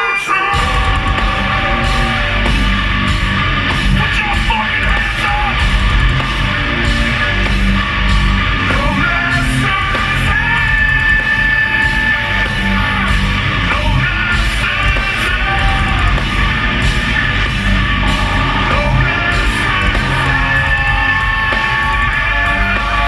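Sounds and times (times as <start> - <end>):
live heavy metal music: 0.0 - 23.0.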